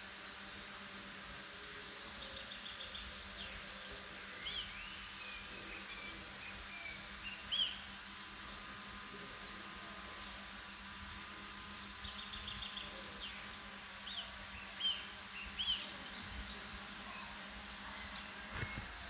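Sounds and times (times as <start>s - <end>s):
birds chirping and trilling: 0.0s - 19.0s
steady background hiss: 0.0s - 19.0s.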